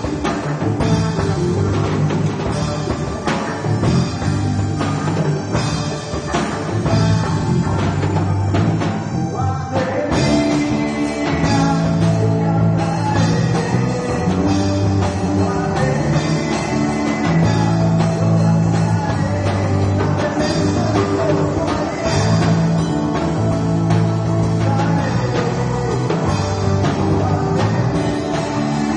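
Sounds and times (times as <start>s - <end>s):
drum kit: 0.0s - 28.9s
low bass notes: 0.0s - 28.9s
rock band playing: 0.0s - 28.9s.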